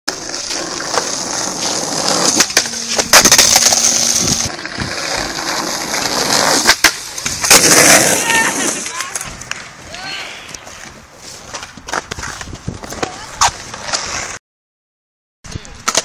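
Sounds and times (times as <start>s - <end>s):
skateboard clacking on ground: 0.1s - 14.2s, 15.6s - 16.0s
skateboard wheels rolling on tarmac: 0.1s - 14.4s.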